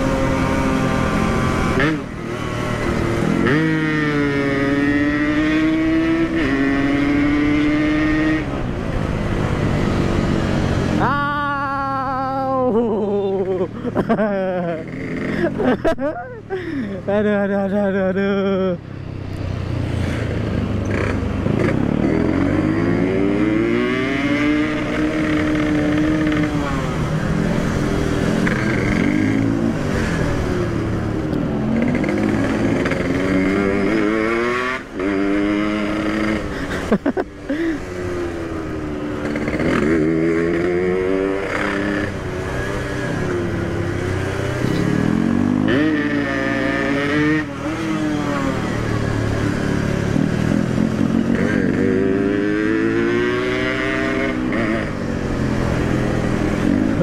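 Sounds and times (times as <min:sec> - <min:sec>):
motorcycle engine at full throttle: 0:00.0 - 0:57.0.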